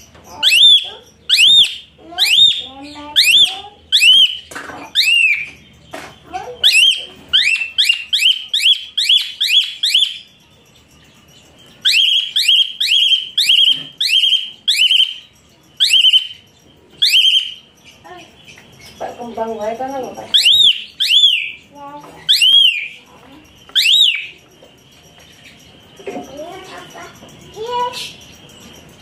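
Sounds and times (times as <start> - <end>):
bird whistled chirps: 0.0 - 5.7, 6.6 - 10.5, 11.6 - 19.2, 20.1 - 29.0.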